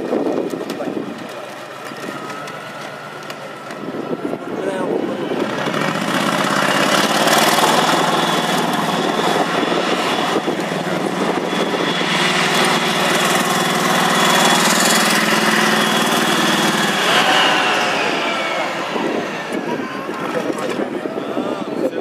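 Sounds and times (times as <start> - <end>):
tank engine running under load: 0.0 - 22.0.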